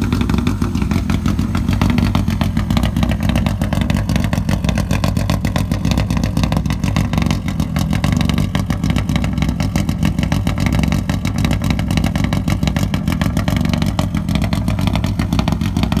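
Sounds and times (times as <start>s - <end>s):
rally car engine running: 0.0s - 16.0s.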